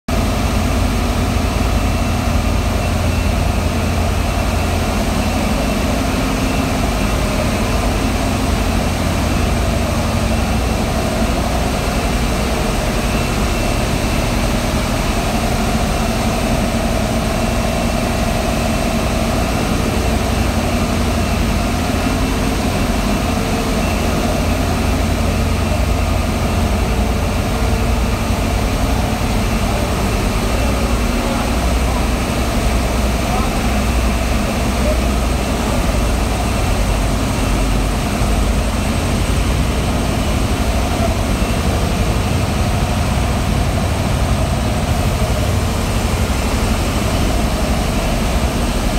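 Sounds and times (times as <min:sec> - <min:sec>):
air compressor drone: 0:00.1 - 0:48.9.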